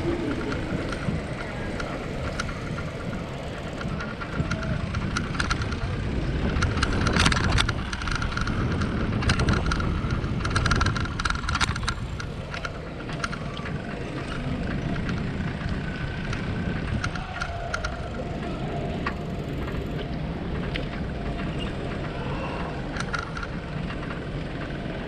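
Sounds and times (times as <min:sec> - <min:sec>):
bicycle clicks and rattles: 0:00.0 - 0:25.0
wind and road rumble on microphone: 0:00.0 - 0:25.0.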